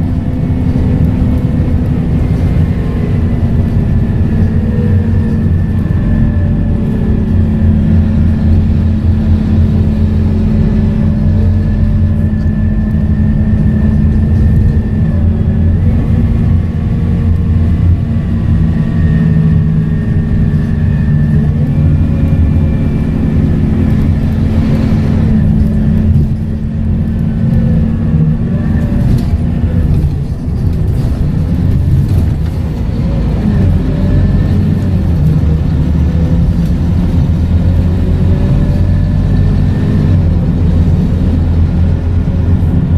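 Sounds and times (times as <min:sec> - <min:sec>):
bus diesel engine: 0:00.0 - 0:42.9.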